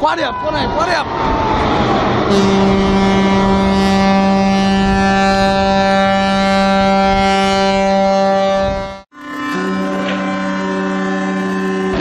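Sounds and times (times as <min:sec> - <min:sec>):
ship's horn blast: 0:00.3 - 0:12.0.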